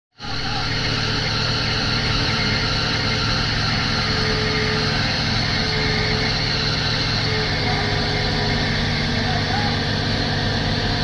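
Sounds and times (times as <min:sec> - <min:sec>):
excavator diesel engines running: 0:00.2 - 0:11.0
faint whine: 0:00.2 - 0:11.0.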